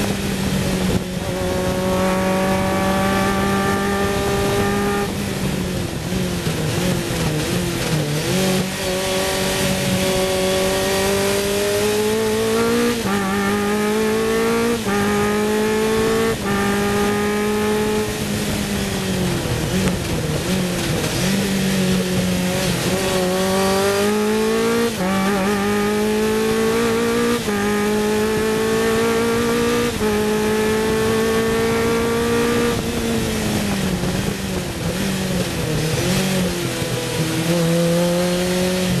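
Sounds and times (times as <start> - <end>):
racing car engine revving: 0.0 - 39.0.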